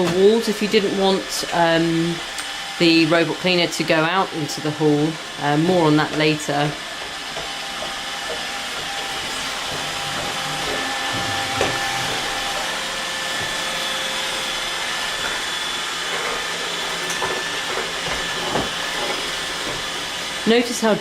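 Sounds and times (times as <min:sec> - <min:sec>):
robot vacuum whirring: 0:00.0 - 0:21.0.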